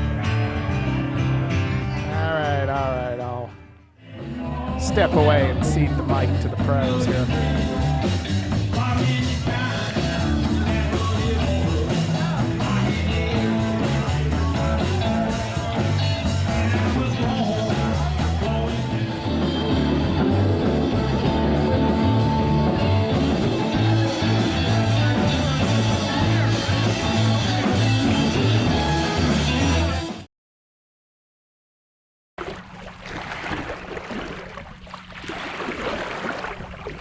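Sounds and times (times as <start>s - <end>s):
rock song with singer: 0.0s - 30.2s.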